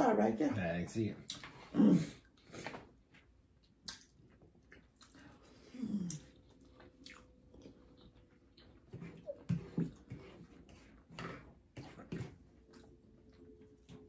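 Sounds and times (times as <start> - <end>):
people chewing and biting: 1.2 - 14.0.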